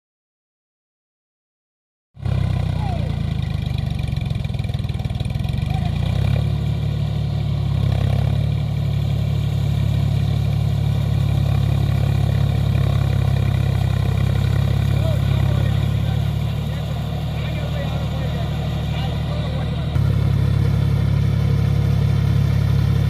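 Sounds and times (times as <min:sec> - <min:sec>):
tractor diesel engine running: 0:02.2 - 0:23.0.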